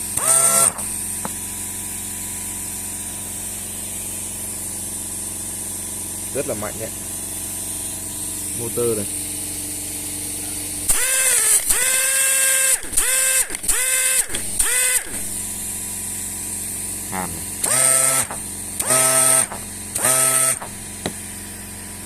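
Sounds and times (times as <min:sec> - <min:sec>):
pneumatic air motor whine: 0:00.0 - 0:22.0.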